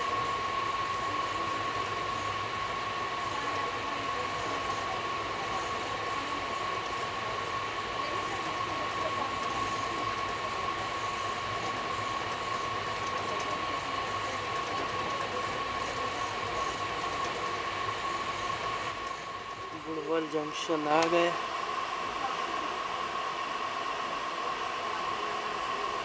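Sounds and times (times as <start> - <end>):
train rolling noise: 0.0 - 26.0
train whine: 0.0 - 26.0.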